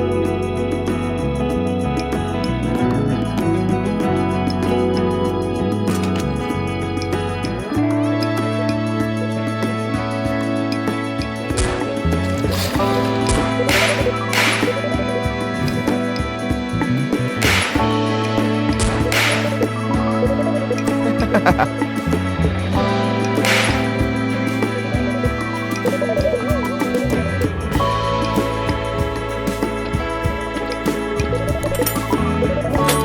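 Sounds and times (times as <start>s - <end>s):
music with sustained tones: 0.0s - 33.0s.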